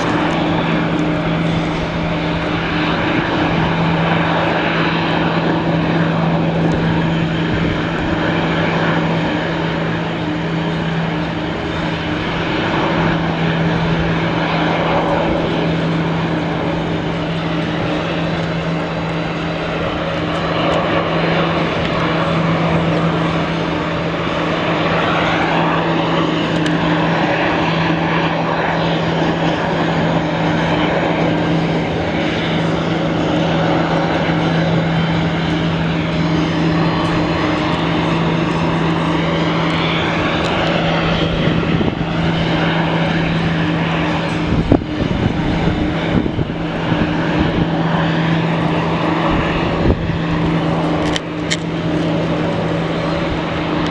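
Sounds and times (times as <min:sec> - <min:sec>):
jet engines roaring with whine: 0:00.0 - 0:53.9.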